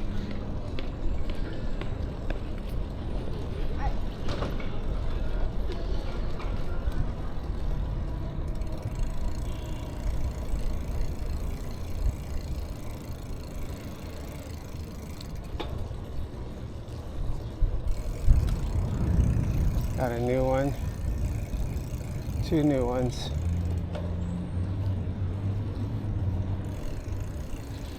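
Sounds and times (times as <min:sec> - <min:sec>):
wind and road rumble: 0:00.0 - 0:27.9.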